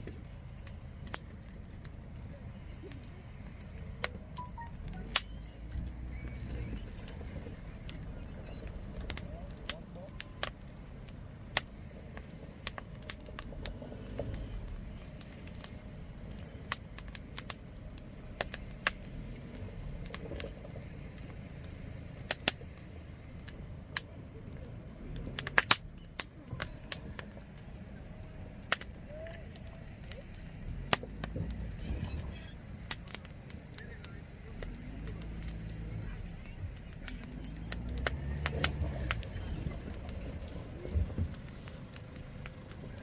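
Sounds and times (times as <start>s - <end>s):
campfire crackling: 0.0s - 43.0s
low rumble of fire: 0.0s - 43.0s.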